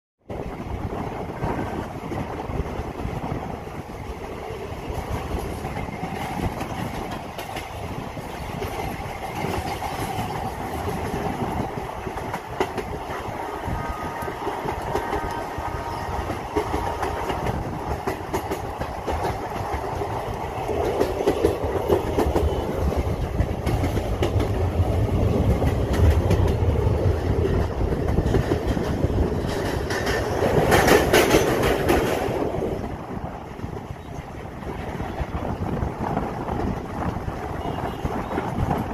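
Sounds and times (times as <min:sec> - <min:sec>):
low rumble of train on bridge: 0:00.2 - 0:38.9
train wheels clattering over rails: 0:00.6 - 0:38.9.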